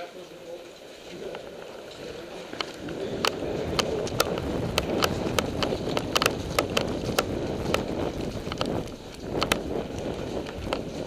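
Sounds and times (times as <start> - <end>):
running footsteps on hard floor: 0.6 - 11.0.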